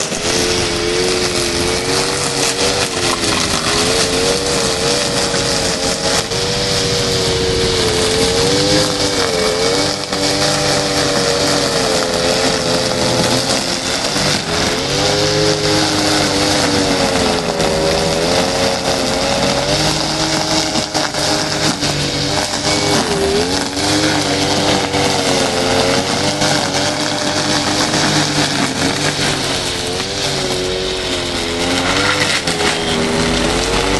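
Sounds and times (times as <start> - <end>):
brush cutter engine running: 0.0 - 33.9.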